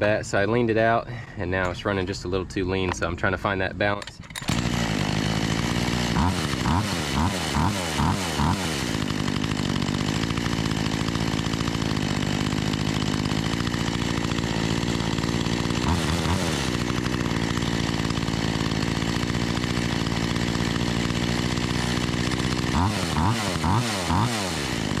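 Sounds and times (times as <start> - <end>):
chainsaw idling: 4.0 - 25.0.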